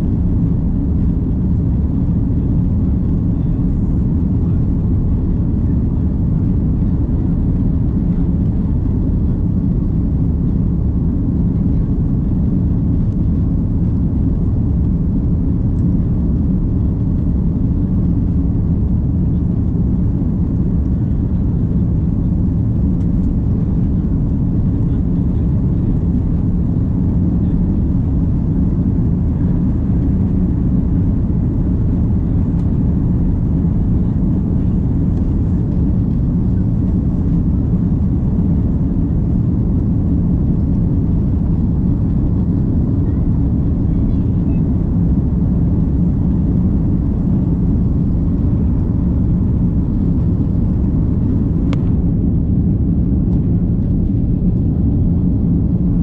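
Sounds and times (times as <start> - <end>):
airliner engine rumble in cabin: 0.0 - 56.0.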